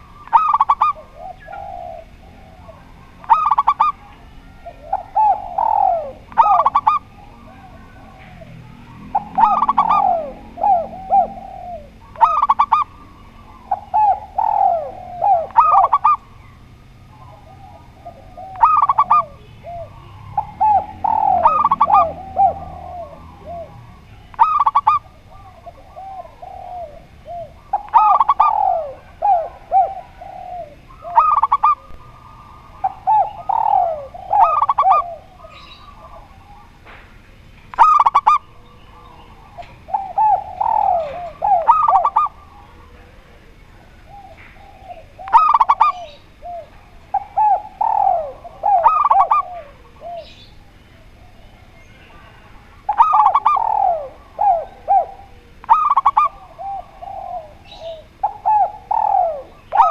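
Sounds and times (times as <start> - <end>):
doves cooing: 0.0 - 59.9.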